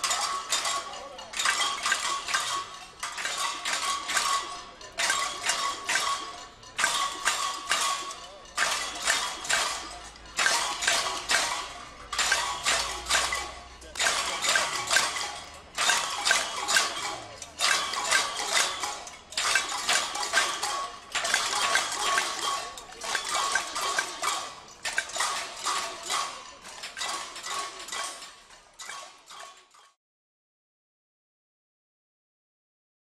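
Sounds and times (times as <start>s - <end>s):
crowd banging pots and pans: 0.0s - 30.0s.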